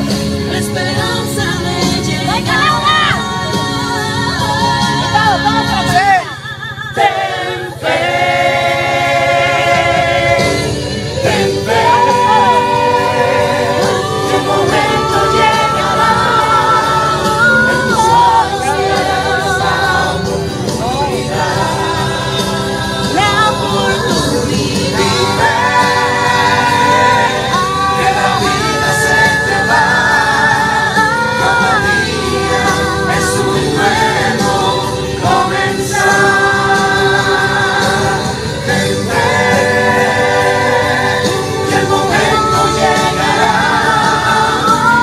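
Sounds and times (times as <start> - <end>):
backing music: 0.0 - 45.0
voices singing pop ballad: 0.0 - 45.0.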